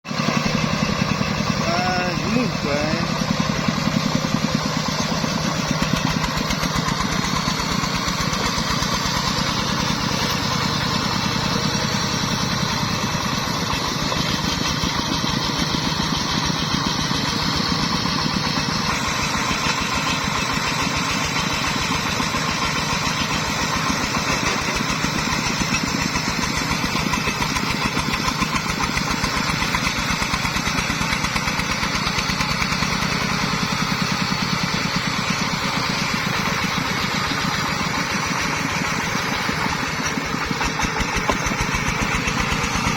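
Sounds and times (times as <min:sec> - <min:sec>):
diesel engine chugging: 0:00.0 - 0:42.9.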